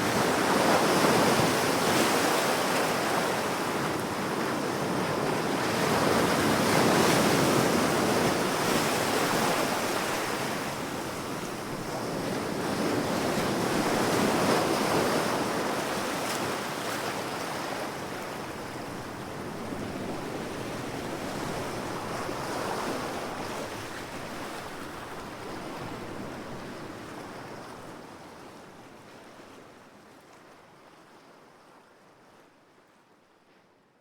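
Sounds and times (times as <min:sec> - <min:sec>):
ocean waves washing on shore: 0:00.0 - 0:28.0.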